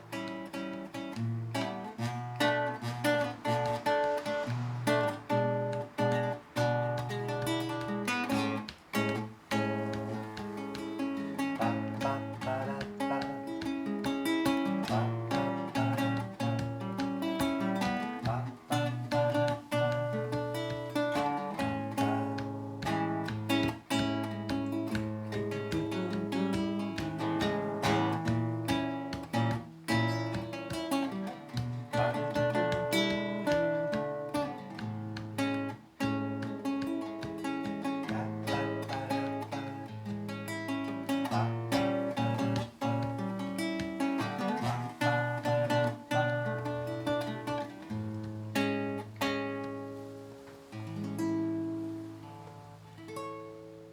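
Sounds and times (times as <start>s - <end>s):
acoustic plucked-string music: 0.0s - 53.9s.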